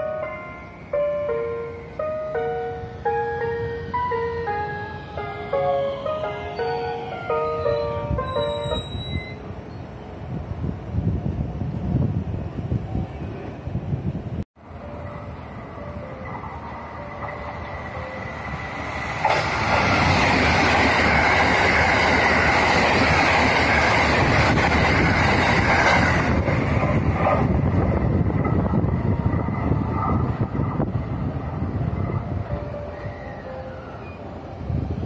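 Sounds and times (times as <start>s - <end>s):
train passing on rails: 0.0s - 35.0s.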